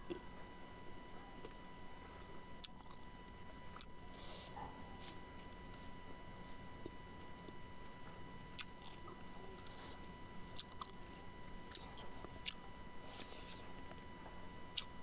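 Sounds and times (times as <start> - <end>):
close chewing and eating: 0.0 - 15.0.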